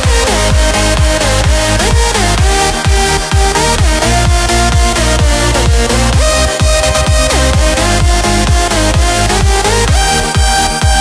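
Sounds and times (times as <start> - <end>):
gliding synth melody: 0.0 - 11.0
kick drum: 0.0 - 11.0.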